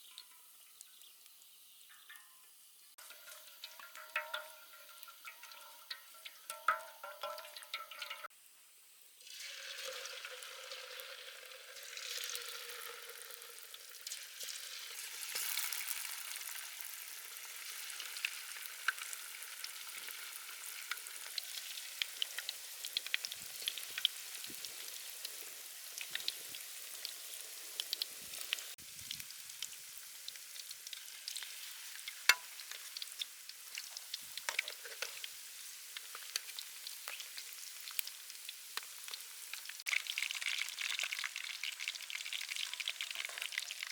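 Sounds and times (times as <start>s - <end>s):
oil sizzling and popping: 0.0s - 43.9s.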